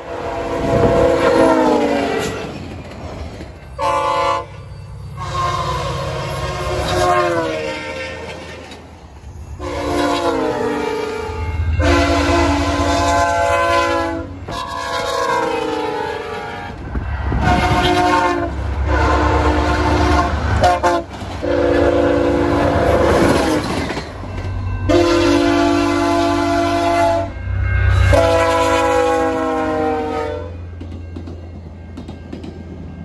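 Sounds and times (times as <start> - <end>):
locomotive air horn blasts: 0.0 - 2.5, 3.8 - 4.6, 5.2 - 8.6, 9.6 - 23.6, 24.8 - 30.6
train wheels on rails: 0.0 - 33.0.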